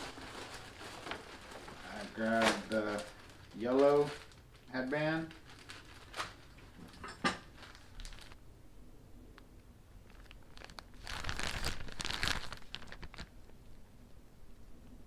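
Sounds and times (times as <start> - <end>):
plastic packaging crinkling: 0.0 - 8.4, 10.0 - 13.8.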